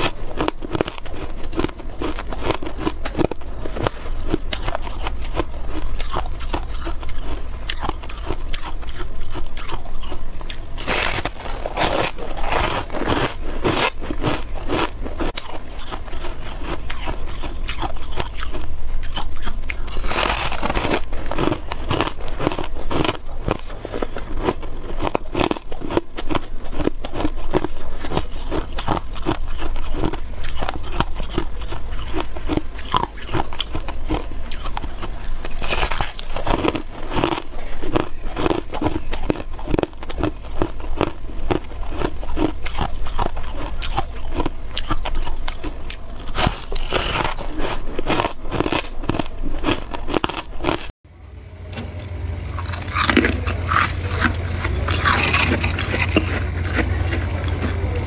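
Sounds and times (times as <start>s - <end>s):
crunchy chewing of frost: 0.0s - 50.9s, 52.4s - 58.0s.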